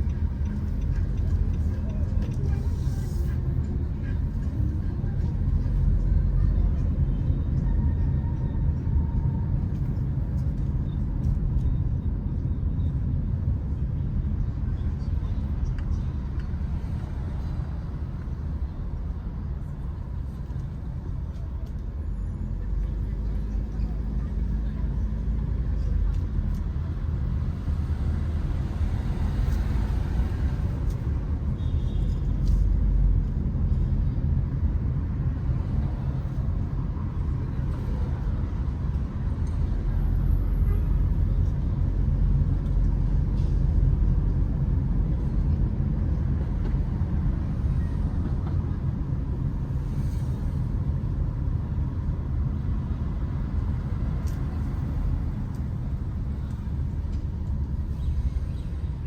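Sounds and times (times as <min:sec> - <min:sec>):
low rumble of street traffic: 0:00.0 - 0:59.0.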